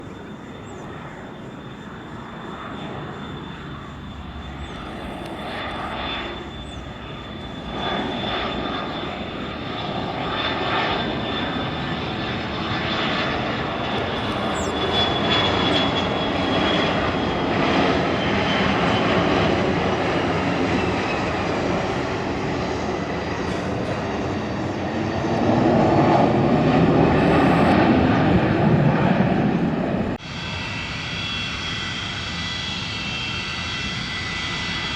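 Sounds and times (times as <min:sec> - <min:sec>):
high engine whine: 0:00.0 - 0:34.9
jet engines roaring: 0:00.0 - 0:34.9.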